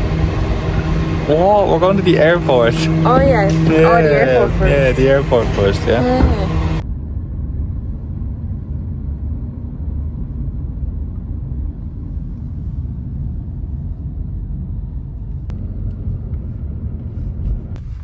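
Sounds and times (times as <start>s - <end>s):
vehicle running rumble: 0.0s - 18.0s.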